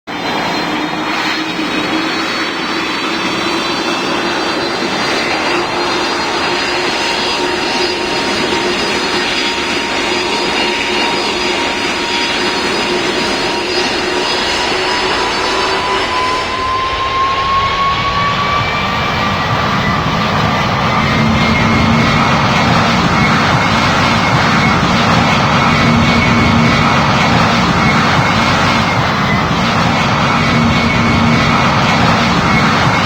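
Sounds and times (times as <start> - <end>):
jet engines at takeoff thrust: 0.1 - 33.0.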